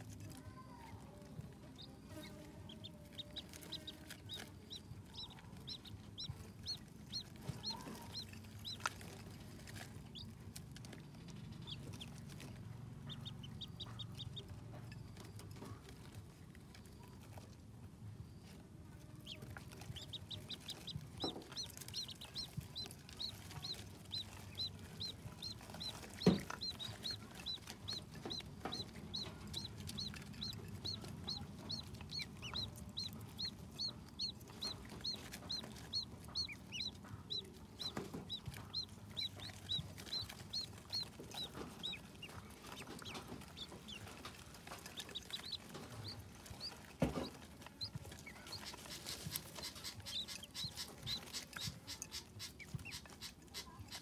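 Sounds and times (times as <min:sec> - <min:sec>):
ducklings peeping: 0:00.1 - 0:17.6, 0:18.2 - 0:54.0.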